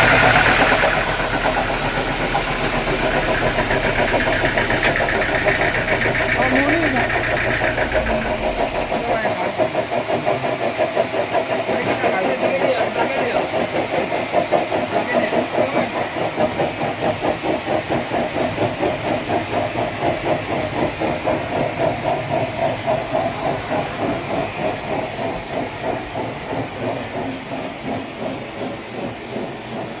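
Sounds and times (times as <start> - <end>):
sawmill machinery pulsing: 0.0 - 30.0.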